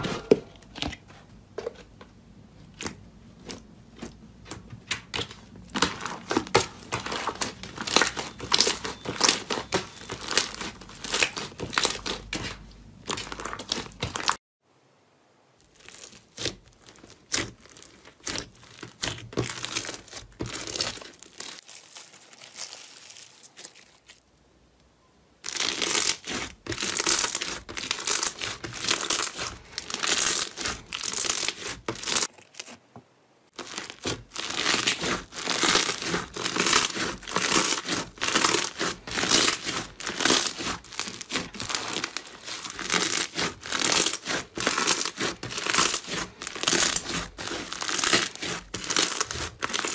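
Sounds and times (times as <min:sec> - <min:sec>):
slime crackling: 0:02.7 - 0:14.4, 0:15.6 - 0:24.3, 0:25.4 - 0:32.8, 0:33.5 - 0:49.9.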